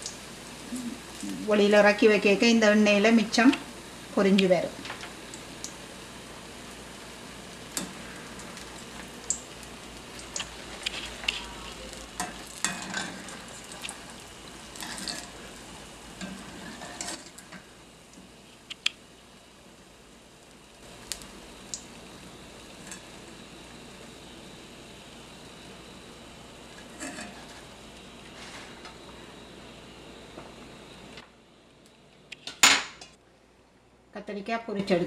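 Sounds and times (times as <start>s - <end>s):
food deep-frying in oil: 0.0s - 31.2s.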